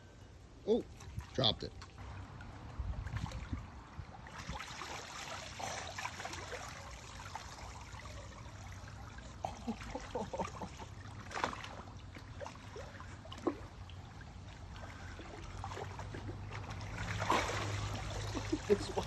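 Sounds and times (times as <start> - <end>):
shallow water trickling and splashing: 0.9 - 19.0.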